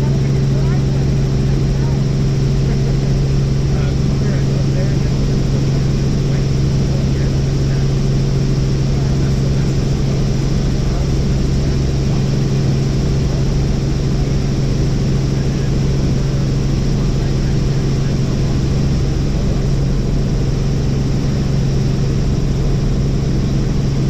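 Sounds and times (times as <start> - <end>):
helicopter cabin drone: 0.0 - 24.0.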